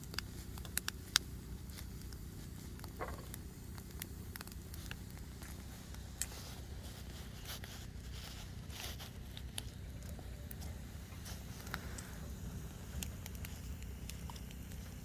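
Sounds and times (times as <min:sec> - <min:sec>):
firewood crackling and popping: 0:00.0 - 0:15.0
steady low rumble: 0:00.0 - 0:15.0.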